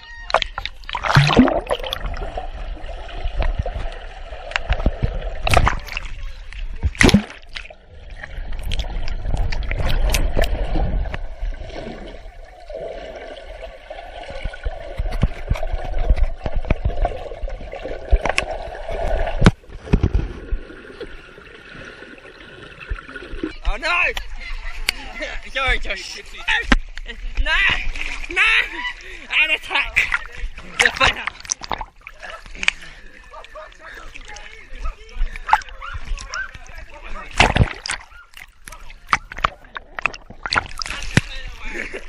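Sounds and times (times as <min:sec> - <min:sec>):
water splashing and sloshing: 0:00.0 - 0:42.0.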